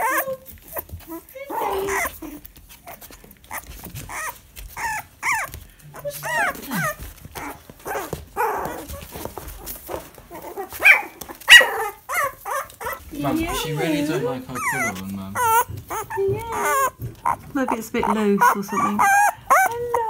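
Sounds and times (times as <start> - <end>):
puppies whimpering and yipping: 0.0 - 20.0.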